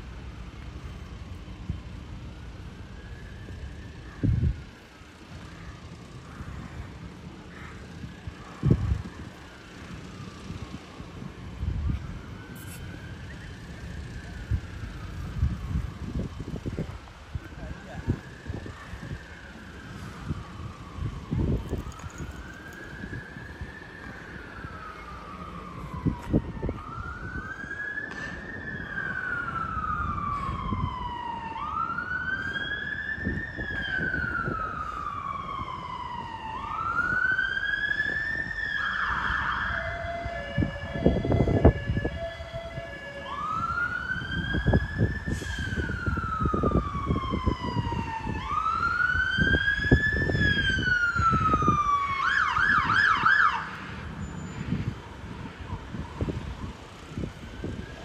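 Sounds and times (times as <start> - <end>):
fire engine sirens wailing: 0.0 - 58.0
low rumble of traffic: 0.0 - 58.0.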